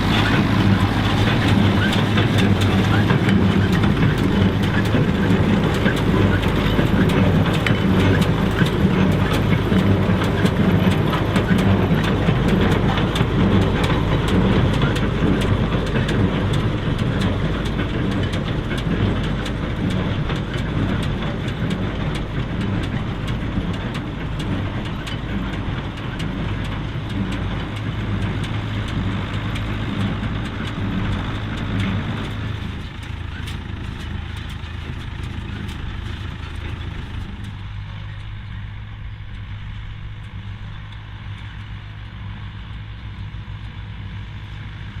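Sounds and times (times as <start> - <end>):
baler working rhythmically: 0.0 - 38.5
tractor diesel engine under load: 0.0 - 45.0.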